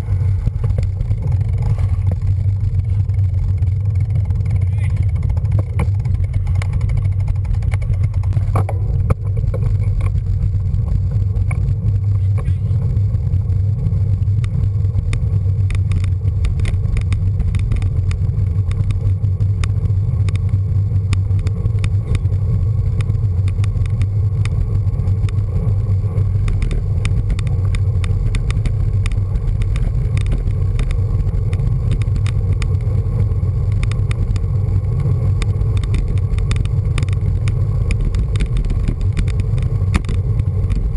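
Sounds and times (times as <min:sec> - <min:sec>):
bicycle clicks and rattles: 0:00.0 - 0:40.9
road rumble: 0:00.0 - 0:40.9.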